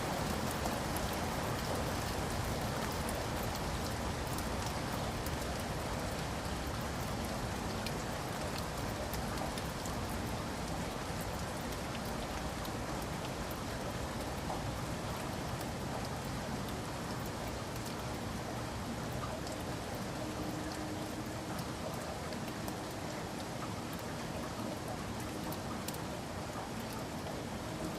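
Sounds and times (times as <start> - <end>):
raindrop ticks: 0.0 - 27.9
steady rain: 0.0 - 27.9.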